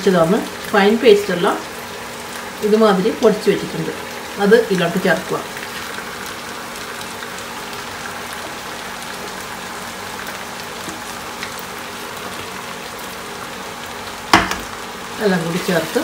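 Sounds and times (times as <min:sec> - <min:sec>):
chicken frying in a pan: 0:00.0 - 0:16.0.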